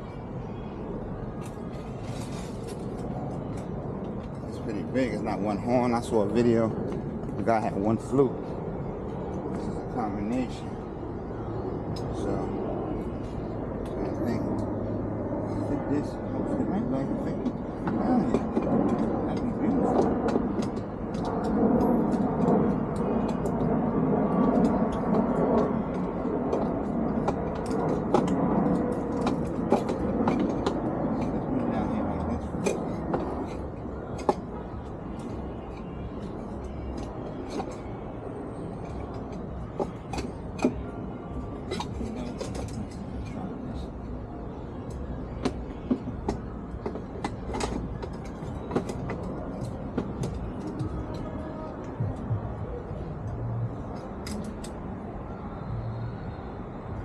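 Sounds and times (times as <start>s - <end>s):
steady low hum: 0.0s - 57.0s
steady low rumble: 0.0s - 57.0s.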